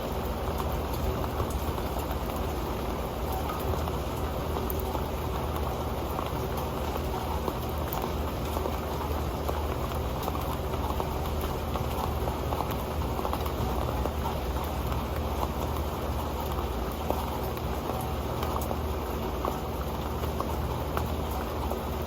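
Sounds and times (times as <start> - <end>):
rain pattering on a metal pan: 0.0 - 22.0.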